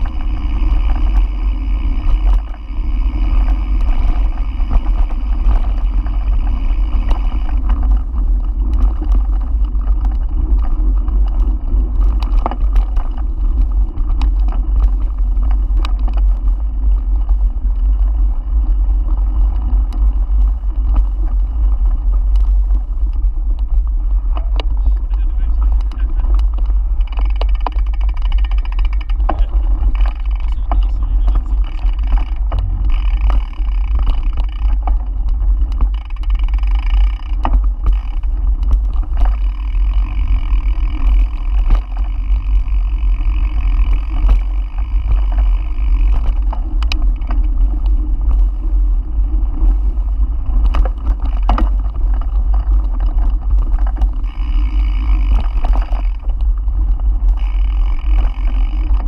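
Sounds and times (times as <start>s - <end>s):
bike clicking and rattling: 0.0s - 59.0s
bike tyres on dirt: 0.0s - 59.0s
wind rumble on microphone: 0.0s - 59.0s.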